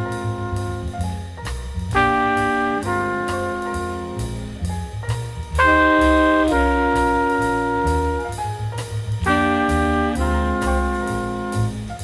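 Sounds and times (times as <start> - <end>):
bass line: 0.0 - 12.0
jazz horns playing chords: 0.0 - 12.0.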